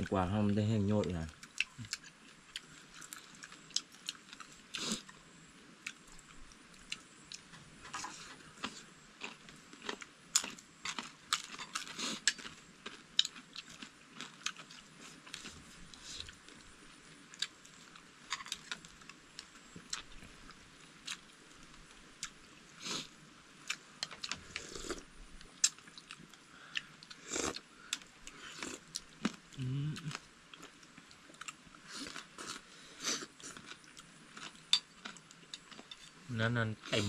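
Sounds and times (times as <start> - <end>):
crisp crunching and chewing: 0.9 - 5.2, 5.8 - 36.3.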